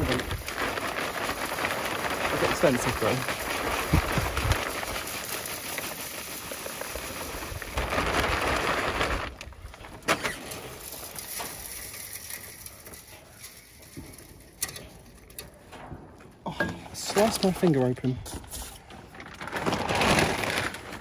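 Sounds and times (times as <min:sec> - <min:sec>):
plastic sack rustling: 0:00.0 - 0:15.6, 0:16.9 - 0:21.0
granules pouring down flue: 0:00.0 - 0:21.0.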